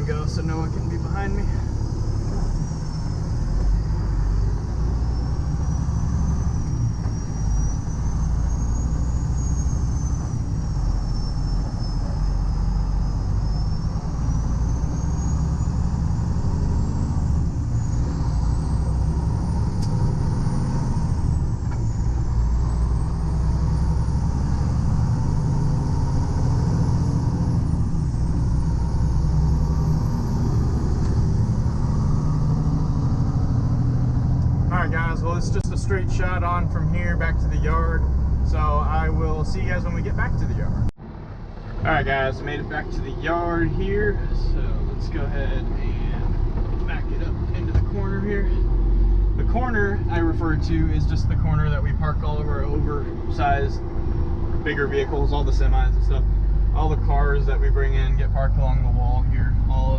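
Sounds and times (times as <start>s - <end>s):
truck engine and road rumble: 0.0s - 59.9s.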